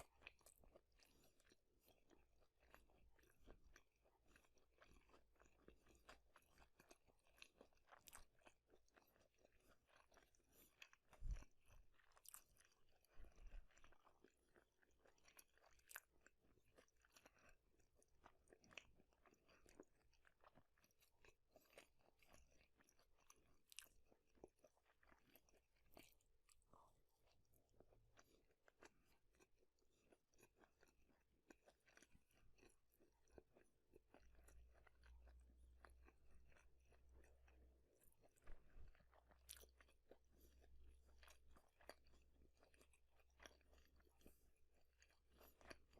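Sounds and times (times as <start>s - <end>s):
chewing crunchy food: 0.0s - 45.9s.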